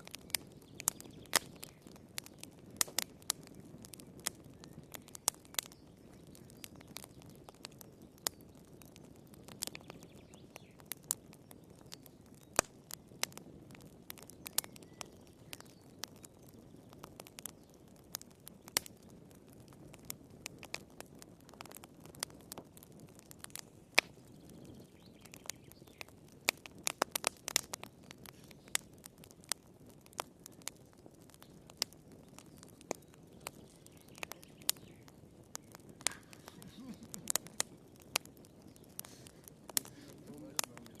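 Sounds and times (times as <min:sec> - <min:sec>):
steady rush of flames: 0:00.0 - 0:41.0
wood fire crackling and popping: 0:00.0 - 0:41.0.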